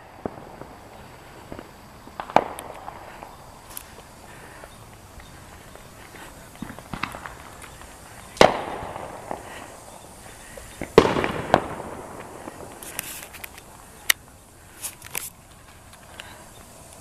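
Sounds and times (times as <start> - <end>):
fireworks bangs with rolling echo: 0.0 - 14.5
faint fireworks crackles: 0.0 - 17.0
sharp firework crack: 0.0 - 17.0.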